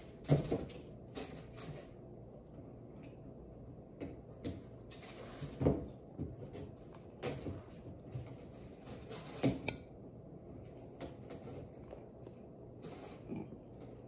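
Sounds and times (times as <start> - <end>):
cats scratching cardboard: 0.0 - 14.0.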